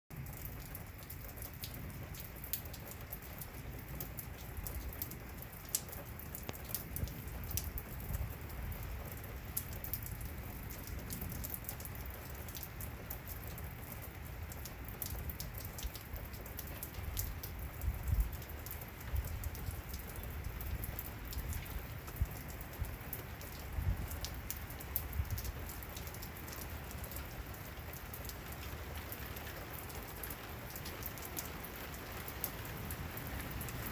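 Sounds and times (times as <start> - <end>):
rain falling on pavement: 0.1 - 33.9.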